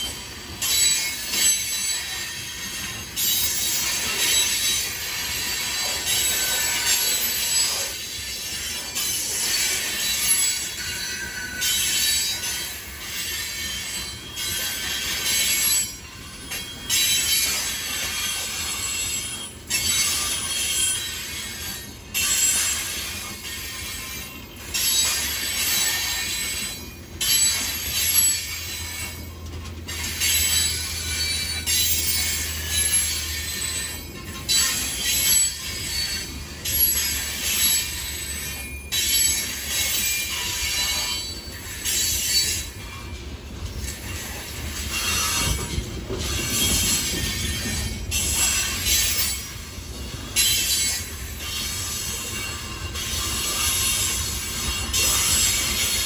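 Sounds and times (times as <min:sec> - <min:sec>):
low train rumble: 0:00.0 - 0:56.0
train wheels squealing on rail: 0:00.0 - 0:56.0.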